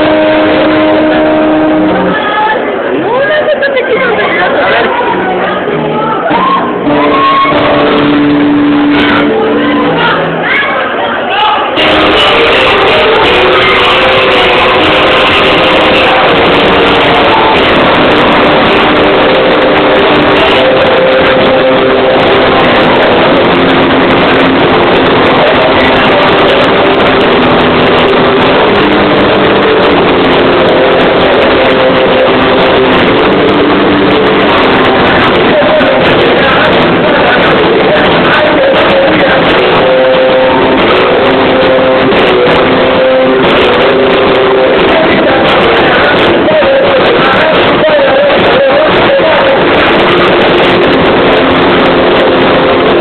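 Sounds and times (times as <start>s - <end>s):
live band playing loud: 0.0s - 11.0s, 11.6s - 53.0s.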